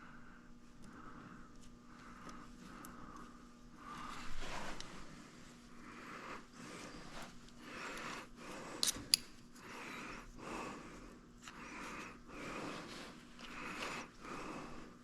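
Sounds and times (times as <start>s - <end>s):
person breathing heavily: 0.0s - 9.0s, 9.6s - 15.0s
faint steady hum: 0.0s - 15.0s.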